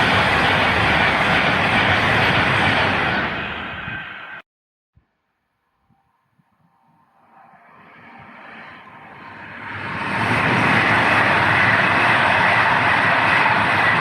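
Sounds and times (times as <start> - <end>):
train passing: 0.0 - 4.4, 6.6 - 14.0.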